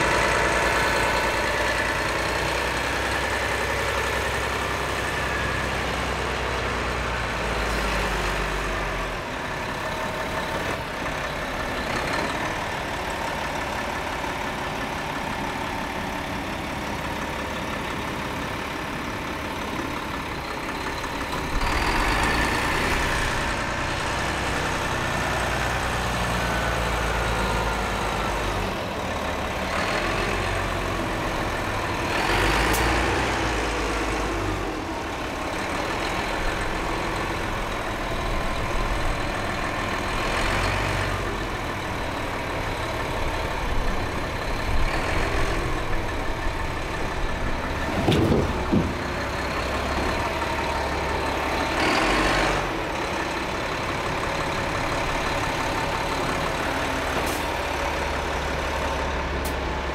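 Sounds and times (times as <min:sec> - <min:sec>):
dump truck diesel engine: 0:00.0 - 0:59.9.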